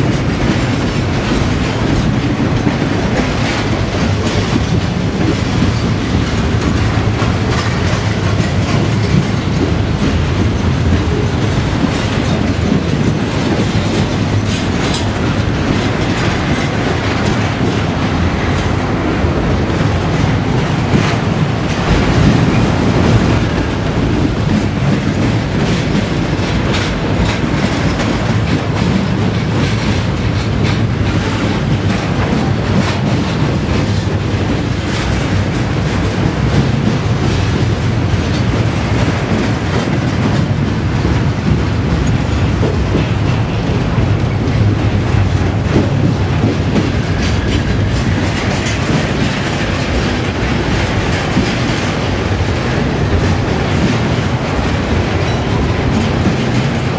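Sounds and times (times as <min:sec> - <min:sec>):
train wheels rumbling on rails: 0:00.0 - 0:56.9
wheels clacking: 0:00.0 - 0:56.9.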